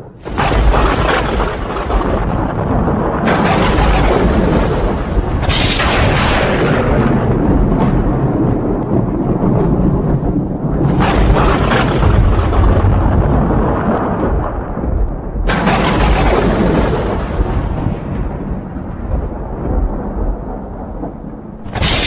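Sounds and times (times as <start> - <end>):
thunder claps: 0.0 - 22.0
thunder rumbling: 0.0 - 22.0.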